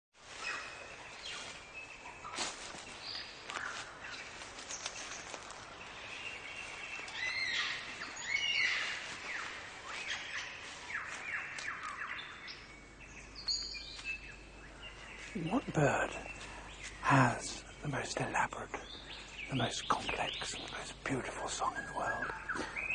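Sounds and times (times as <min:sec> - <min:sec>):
steady background hiss: 0:00.3 - 0:22.9
birds whistling and calling: 0:00.4 - 0:22.9.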